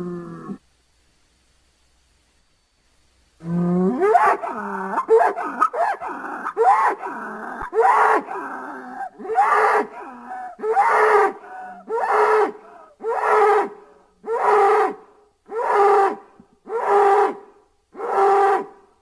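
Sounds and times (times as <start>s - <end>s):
bull bellowing calls: 3.4s - 18.8s.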